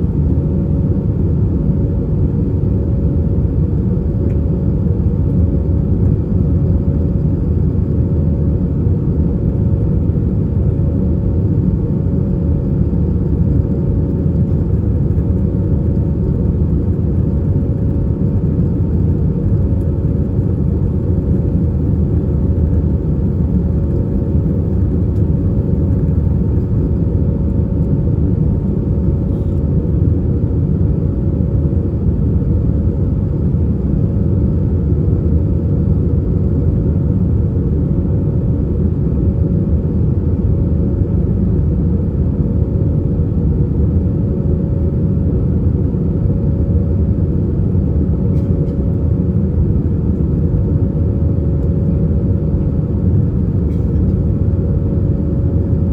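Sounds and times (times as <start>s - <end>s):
aircraft cabin engine rumble: 0.0s - 55.9s.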